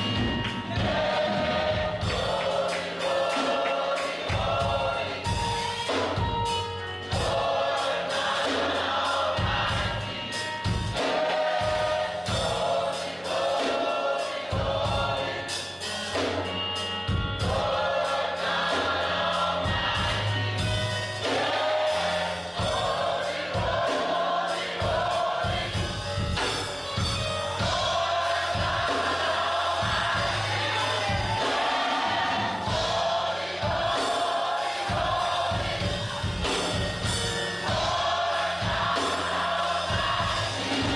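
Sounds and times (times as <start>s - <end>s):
band accompaniment: 0.0s - 40.9s
gospel choir singing: 0.0s - 40.9s.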